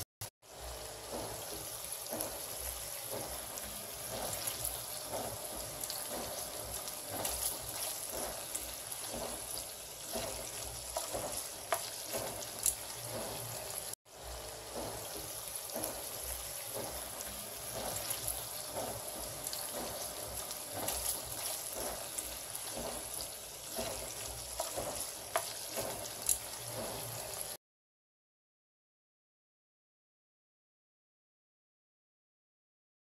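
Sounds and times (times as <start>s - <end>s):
shrimp sizzling in hot oil: 0.4s - 27.6s.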